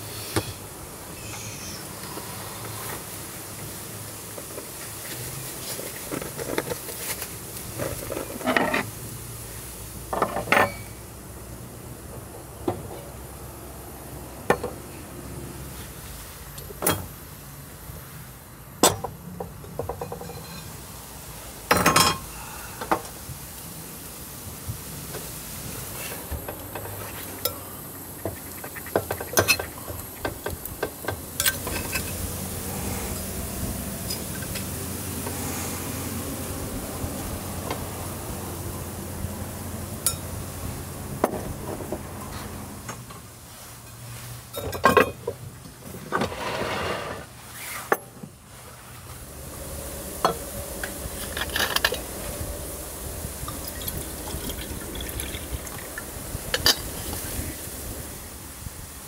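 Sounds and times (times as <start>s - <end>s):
gas stove burning: 1.8s - 43.4s, 48.3s - 59.0s.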